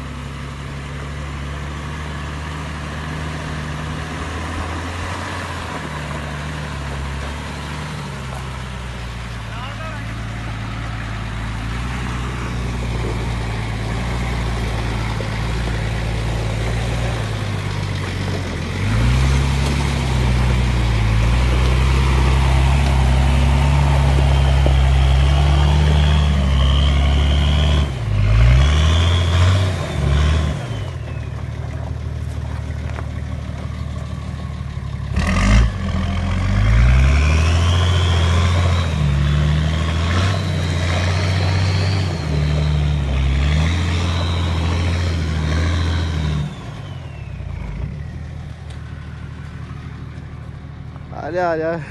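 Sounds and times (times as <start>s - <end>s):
truck engine pulling under load: 0.0s - 51.9s.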